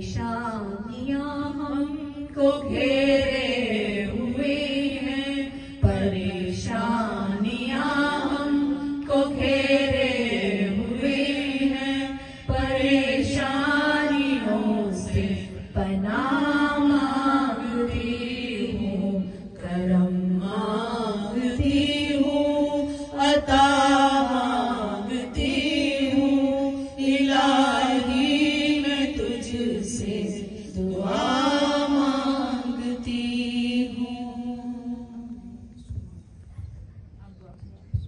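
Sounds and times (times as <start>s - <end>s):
woman chanting into a microphone: 0.0s - 36.6s.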